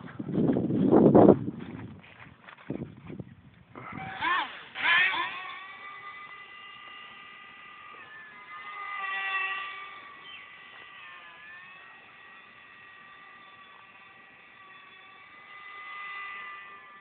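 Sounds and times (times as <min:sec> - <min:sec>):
model plane motor whining overhead: 0:00.0 - 0:17.0.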